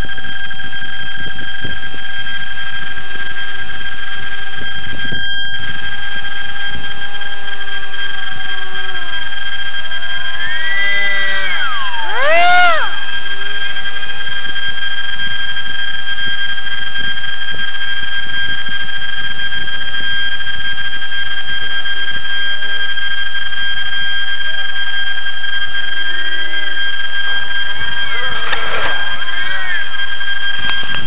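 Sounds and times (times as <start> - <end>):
high-pitched electronic whine: 0.0 - 31.0.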